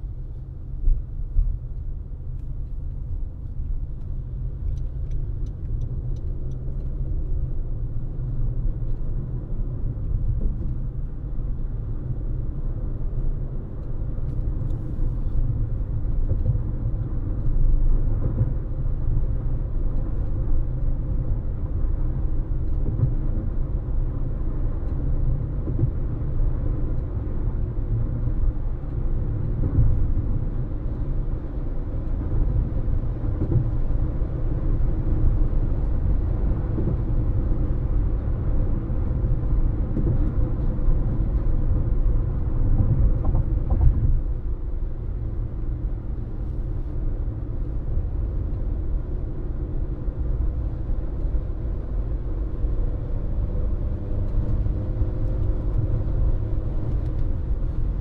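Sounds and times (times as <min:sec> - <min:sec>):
faint engine hum: 0:00.0 - 0:58.0
road and tyre rumble: 0:00.0 - 0:58.0.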